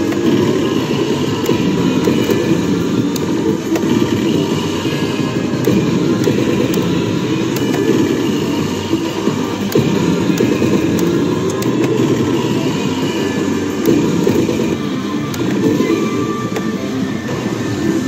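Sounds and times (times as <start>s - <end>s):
slot machine music and effects: 0.0s - 18.0s.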